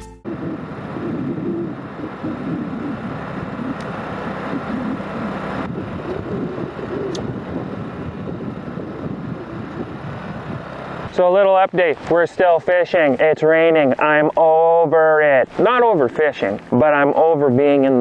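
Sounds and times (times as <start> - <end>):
wind buffeting microphone: 0.2 - 18.0.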